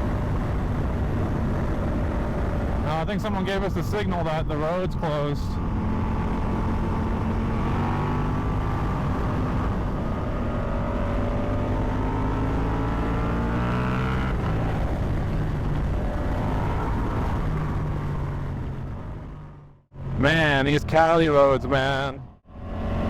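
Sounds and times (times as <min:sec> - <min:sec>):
wind rumble: 0:00.0 - 0:23.0.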